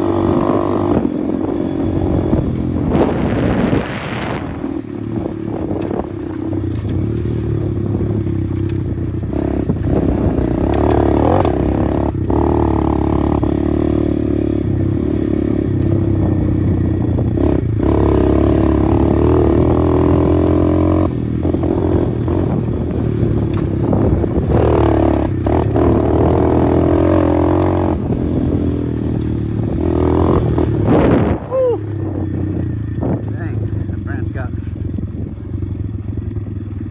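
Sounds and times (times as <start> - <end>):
pit bike engine revving: 0.0 - 36.9.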